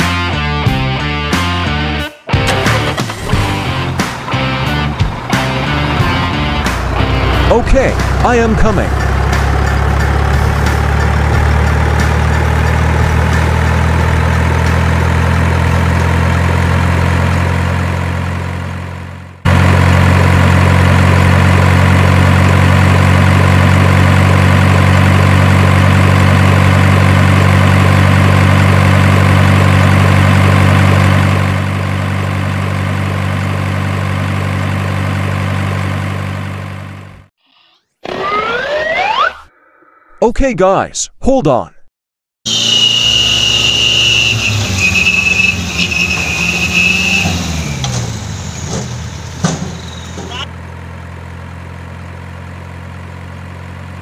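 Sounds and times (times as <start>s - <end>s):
heavy engine idling: 2.5s - 37.3s, 42.5s - 54.0s.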